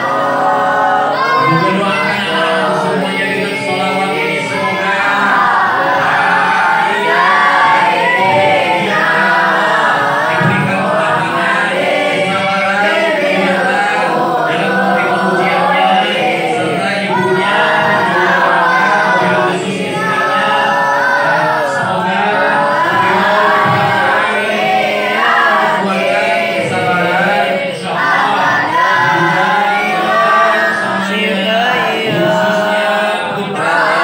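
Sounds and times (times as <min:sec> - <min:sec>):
group chanting prayer in unison: 0:00.0 - 0:34.0.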